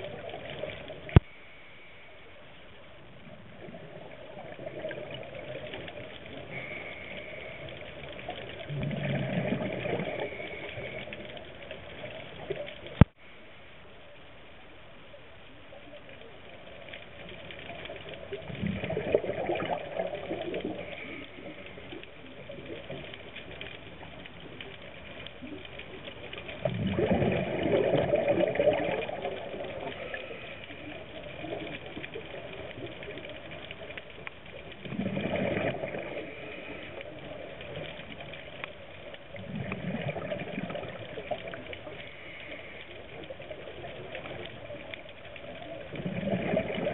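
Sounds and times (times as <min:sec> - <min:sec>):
underwater bubbles gushing: 0:00.0 - 0:01.3, 0:02.7 - 0:13.2, 0:15.4 - 0:46.9
muffled underwater hiss: 0:00.0 - 0:46.9.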